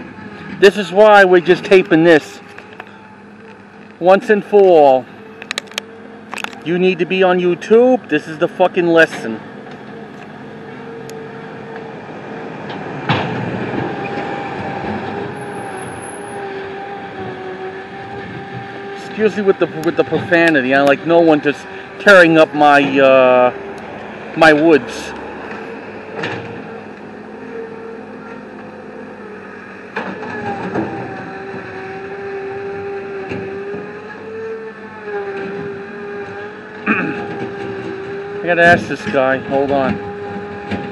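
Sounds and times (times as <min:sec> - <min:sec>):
heavy machinery rumbling: 0:00.0 - 0:40.9
steady machine whine: 0:00.0 - 0:40.9.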